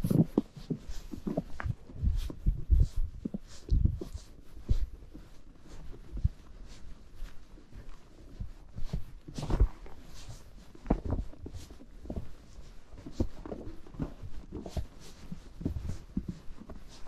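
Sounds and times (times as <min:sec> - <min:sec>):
horse hooves stepping through snow: 0:00.0 - 0:17.0.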